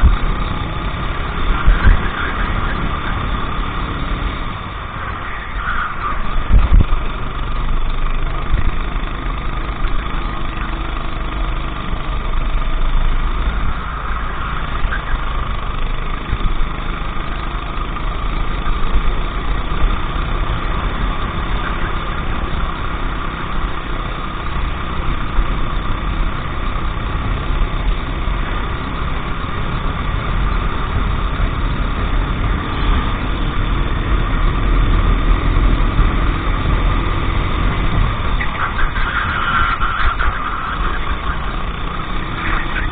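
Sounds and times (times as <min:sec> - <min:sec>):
kart engine running: 0:00.0 - 0:42.9.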